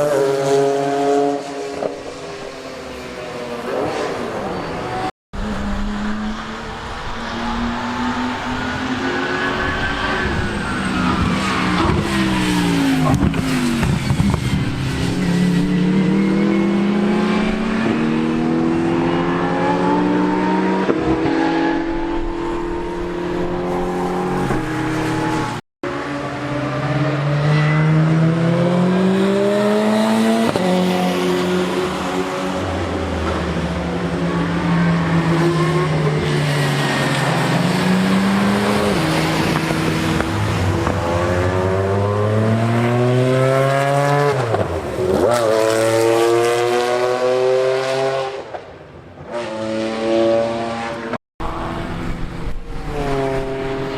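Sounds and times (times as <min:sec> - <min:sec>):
race car engines at full throttle: 0:00.0 - 0:53.9
race car passing: 0:00.0 - 0:53.9.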